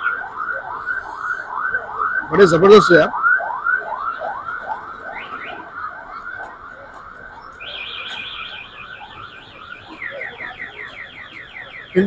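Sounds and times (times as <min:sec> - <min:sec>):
electronic alarm chirping: 0:00.0 - 0:12.0.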